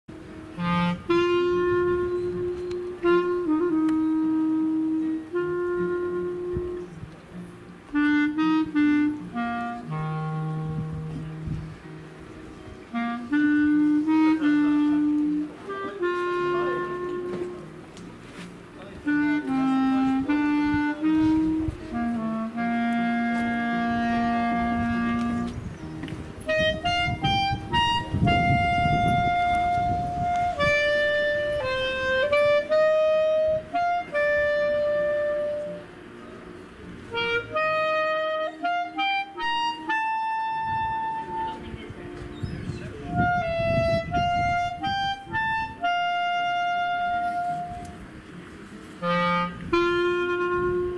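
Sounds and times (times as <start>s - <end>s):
solo clarinet slow tune: 0.1s - 36.0s, 37.0s - 50.9s.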